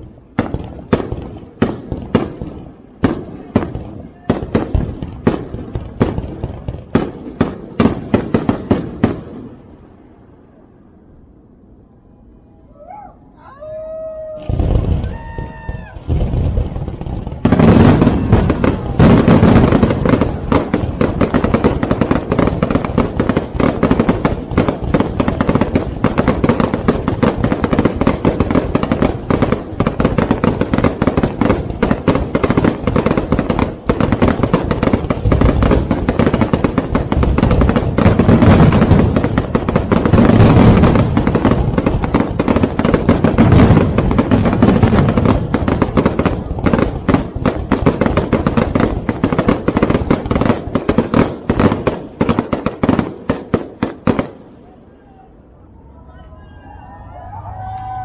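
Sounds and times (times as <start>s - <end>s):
firework bangs and crackles: 0.0s - 11.2s, 14.2s - 54.8s.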